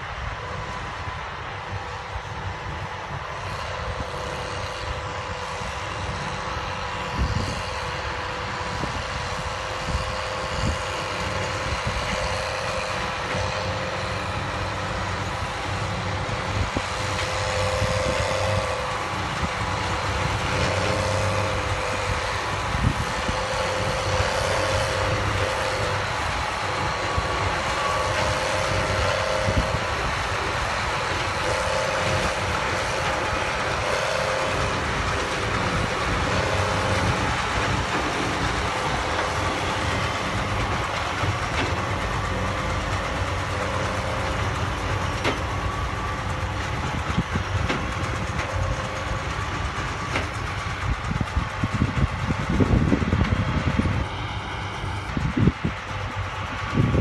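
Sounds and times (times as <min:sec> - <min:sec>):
baler machinery humming: 0:00.0 - 0:57.0
tractor diesel engines rumbling: 0:00.0 - 0:57.0.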